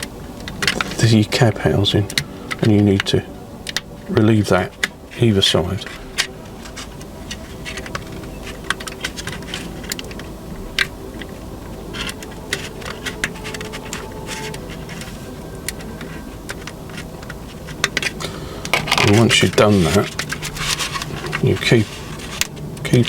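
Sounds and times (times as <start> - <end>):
faint steady hum: 0.0 - 23.0
tool clicking and scratching plastic: 0.0 - 23.0.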